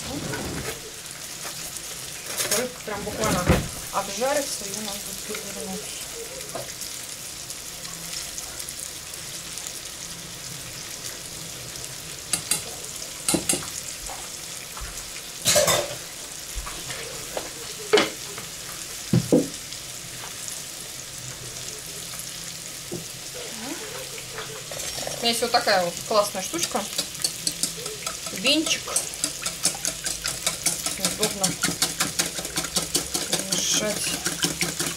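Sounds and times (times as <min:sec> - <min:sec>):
fish fillets sizzling in a pan: 0:00.6 - 0:34.9.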